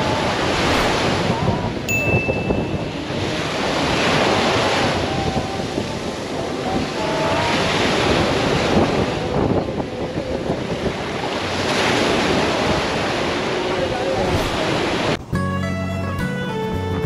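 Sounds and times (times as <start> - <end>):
small waves breaking on beach: 0.0 - 15.2.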